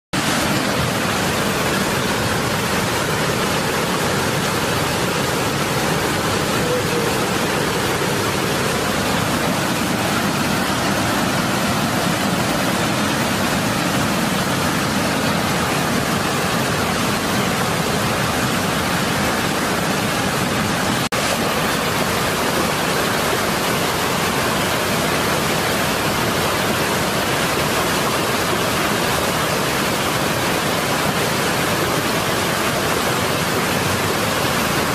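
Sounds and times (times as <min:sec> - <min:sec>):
floodwater rushing over dam: 0:00.2 - 0:34.9.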